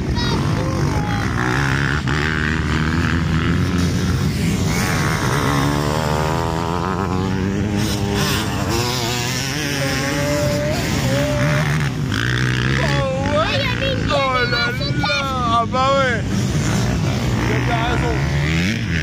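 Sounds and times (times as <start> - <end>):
motocross bikes revving: 0.0 - 19.0.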